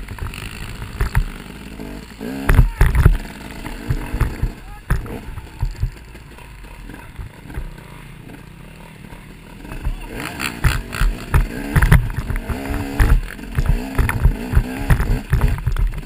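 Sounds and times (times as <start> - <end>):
motorcycle knocking over rough ground: 0.0 - 7.9, 9.0 - 16.0
off-road motorcycle engine revving: 0.0 - 16.0.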